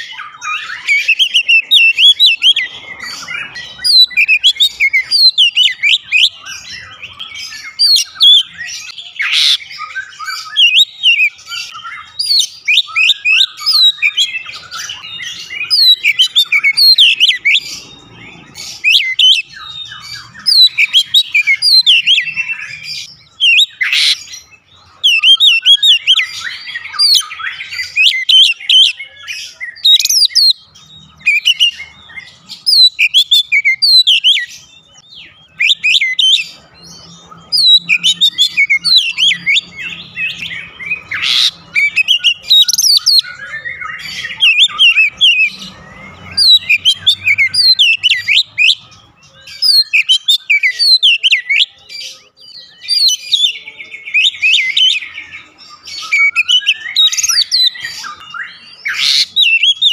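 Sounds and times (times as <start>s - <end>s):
magpie-robin singing: 0.0s - 59.9s.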